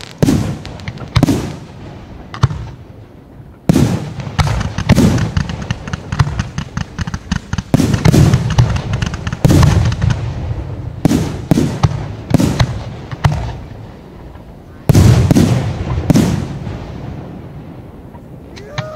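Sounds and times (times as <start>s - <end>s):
fireworks pops and crackles: 0.0s - 3.0s, 3.6s - 17.1s.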